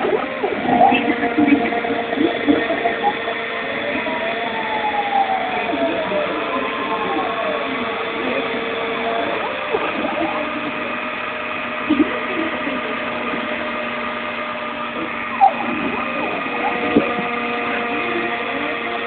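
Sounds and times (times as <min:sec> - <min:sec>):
machine whine: 0:00.0 - 0:19.0.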